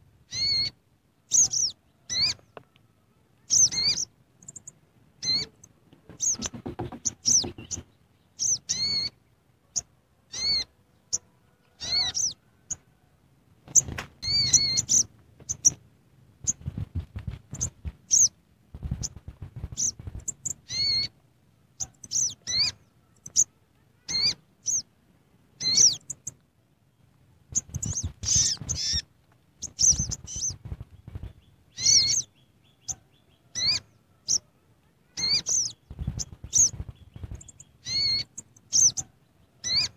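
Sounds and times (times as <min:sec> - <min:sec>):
bird chirping: 0:00.3 - 0:02.8, 0:03.4 - 0:12.9, 0:13.7 - 0:24.9, 0:25.5 - 0:39.9.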